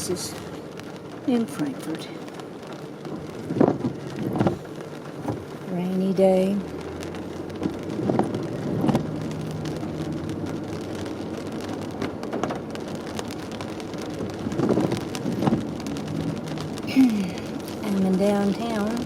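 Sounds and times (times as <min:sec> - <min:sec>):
car engine and road noise: 0:00.0 - 0:19.0
rain pattering on windshield: 0:00.0 - 0:19.0
windshield wipers sweeping: 0:00.0 - 0:19.0.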